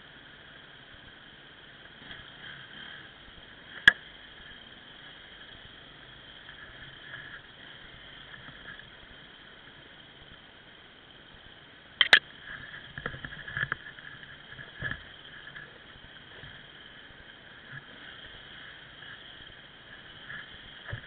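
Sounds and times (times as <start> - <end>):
muffled dirt bike engine hum: 0.0 - 21.0.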